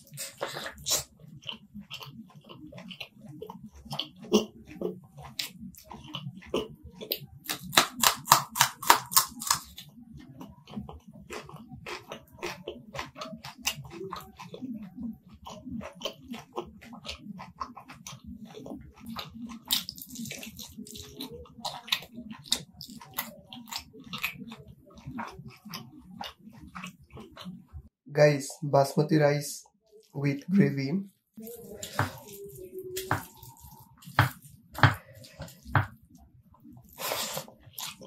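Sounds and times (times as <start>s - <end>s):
person chewing: 0.0s - 27.8s, 31.4s - 38.0s.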